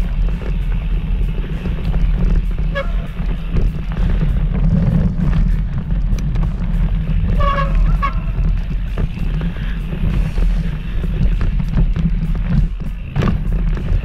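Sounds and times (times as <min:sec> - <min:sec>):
bike rattling clicks: 0:00.0 - 0:14.0
wind buffeting microphone: 0:00.0 - 0:14.0.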